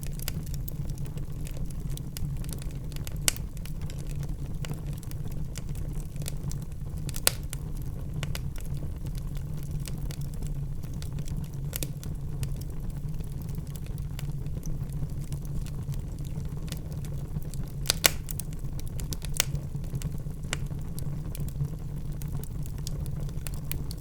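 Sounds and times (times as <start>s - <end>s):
fire crackles and pops: 0.0s - 24.0s
wood fire burning: 0.0s - 24.0s.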